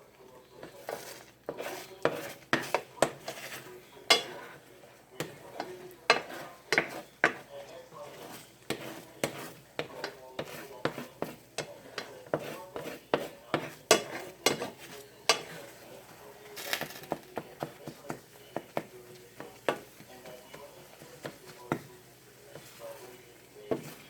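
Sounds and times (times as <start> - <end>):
utensil clinking against a pan: 0.6 - 15.8, 16.6 - 23.0.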